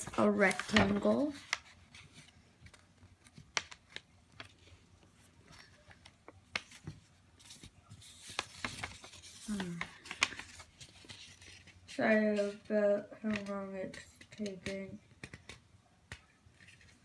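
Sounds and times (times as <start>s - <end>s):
paper folding and rustling: 0.0s - 17.0s.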